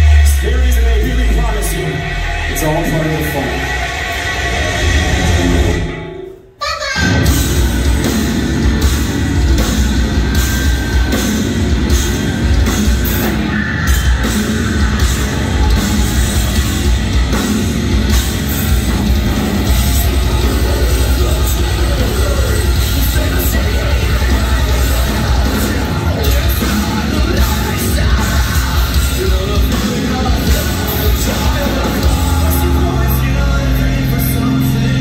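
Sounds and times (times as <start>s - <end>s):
heavy metal band playing: 0.0s - 35.0s.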